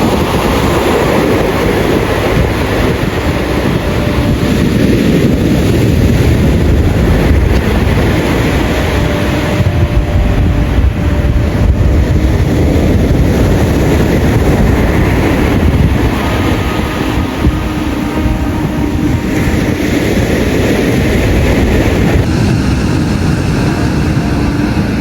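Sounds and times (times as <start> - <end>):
faint hum: 0.0 - 25.0
vehicle rumbling in motion: 0.0 - 25.0.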